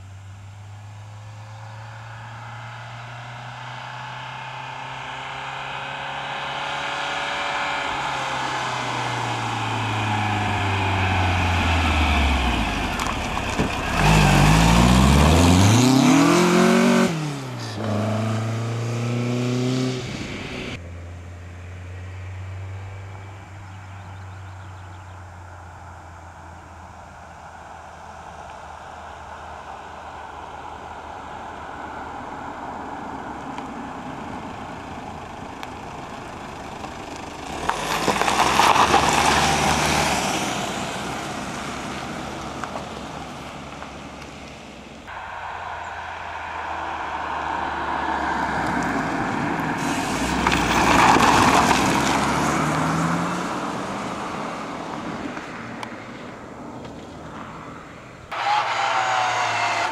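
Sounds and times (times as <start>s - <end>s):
cars driving past: 0.0s - 59.9s.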